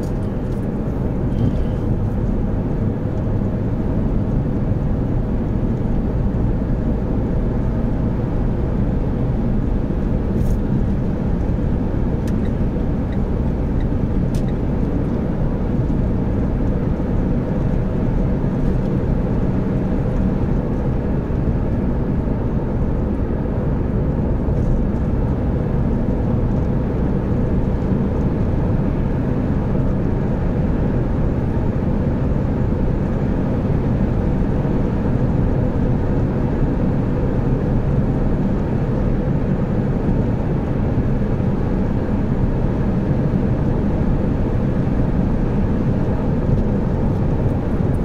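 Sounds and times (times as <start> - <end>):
car road and engine noise: 0.0 - 48.0.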